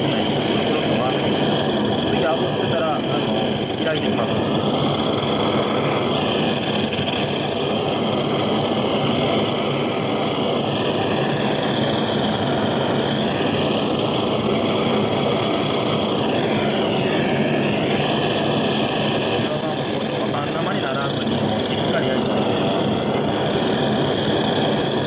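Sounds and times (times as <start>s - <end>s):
gas torch flame roaring: 0.0s - 25.0s.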